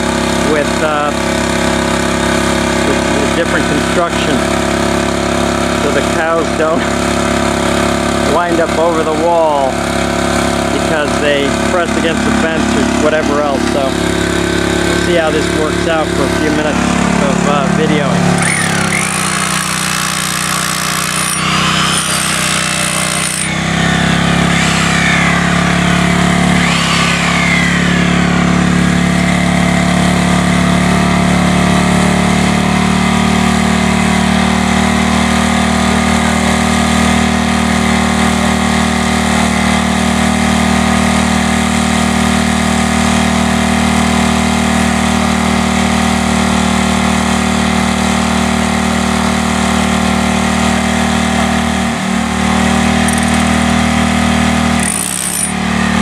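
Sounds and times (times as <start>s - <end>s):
hammer drill hammering ground: 0.0s - 56.0s.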